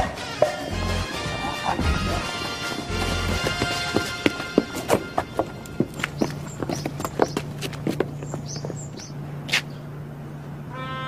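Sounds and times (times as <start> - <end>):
footsteps on concrete stairs: 0.0 - 9.8.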